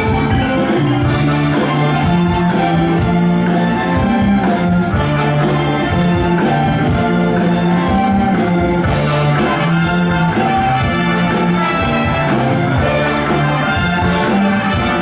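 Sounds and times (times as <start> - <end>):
band holding notes: 0.0 - 15.0.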